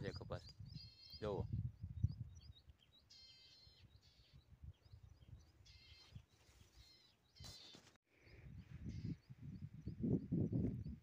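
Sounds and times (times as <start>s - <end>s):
wind rumbling on microphone: 0.0s - 3.0s, 3.6s - 6.6s, 8.2s - 11.0s.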